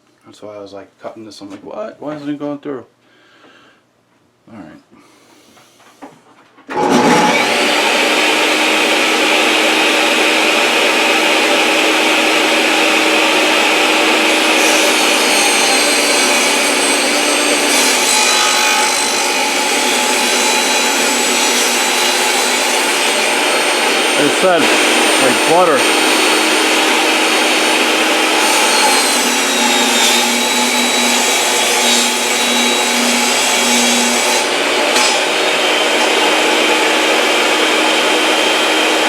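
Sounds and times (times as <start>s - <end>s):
table saw cutting plastic: 6.7s - 39.0s.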